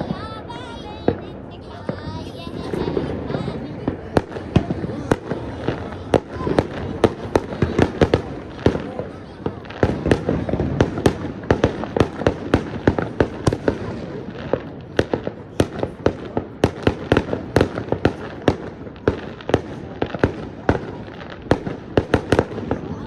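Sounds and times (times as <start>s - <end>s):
distant fireworks crackle: 0.0s - 23.0s
fireworks cracking and banging: 0.0s - 23.0s.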